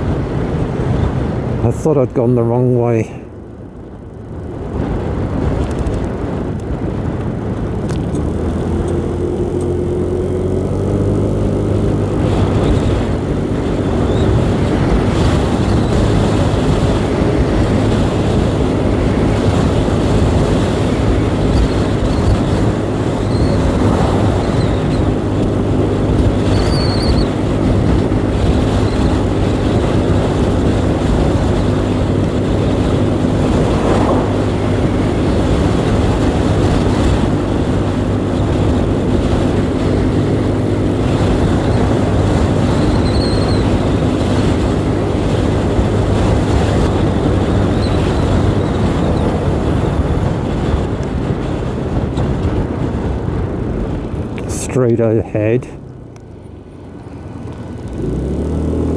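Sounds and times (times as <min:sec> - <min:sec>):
motorcycle engine cruising: 0:00.0 - 0:58.9
wind and road noise: 0:00.0 - 0:58.9.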